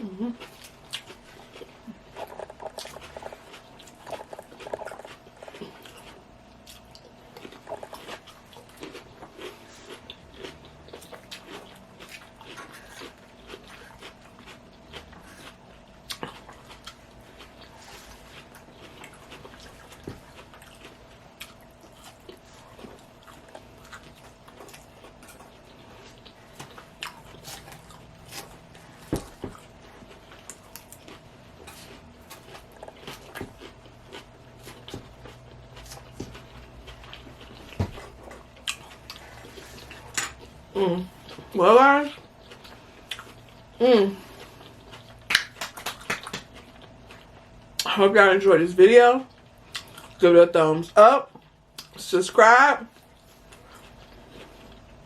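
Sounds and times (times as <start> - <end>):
faint steady hum: 0.0 - 55.0
salad being chewed: 0.3 - 47.9, 49.3 - 50.2, 52.9 - 55.0.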